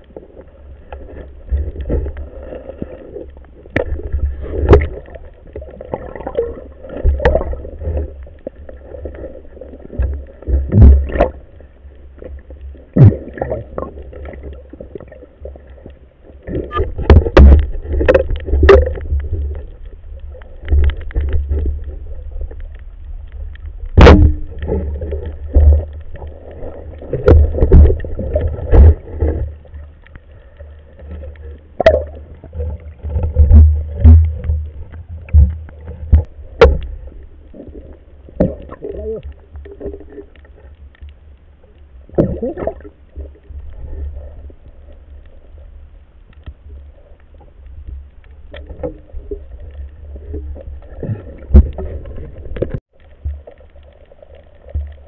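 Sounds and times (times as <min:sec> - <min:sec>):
muffled underwater water rumble: 0:00.0 - 0:55.0.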